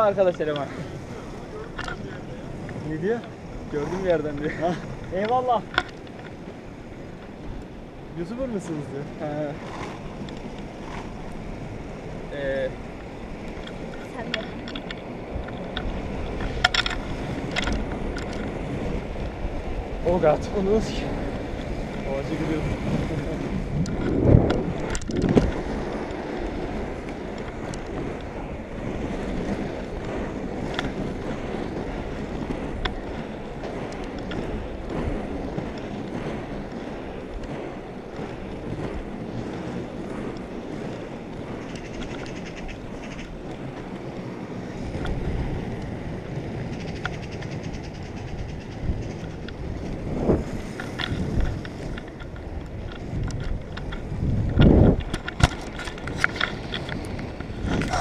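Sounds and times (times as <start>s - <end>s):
skate wheels rolling on asphalt: 0.0s - 58.0s
wind buffeting microphone: 0.0s - 58.0s.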